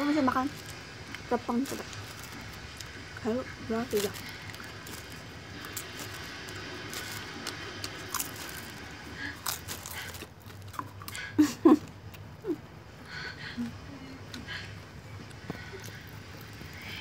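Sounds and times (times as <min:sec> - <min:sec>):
popcorn being chewed: 0:00.0 - 0:12.6, 0:14.2 - 0:17.0.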